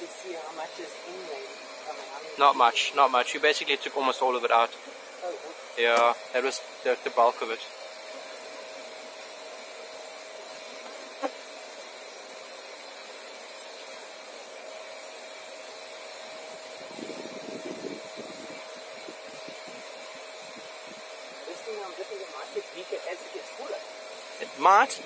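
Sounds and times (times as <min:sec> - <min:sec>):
vacuum motor whirring: 0:00.0 - 0:25.0.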